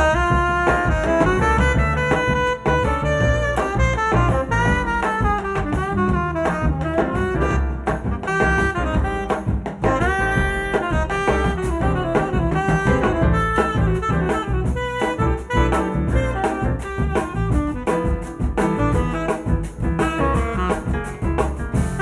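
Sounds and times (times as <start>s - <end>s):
double bass: 0.0s - 22.0s
drum kit: 0.0s - 22.0s
grand piano: 0.0s - 22.0s
tenor saxophone lead: 0.0s - 22.0s.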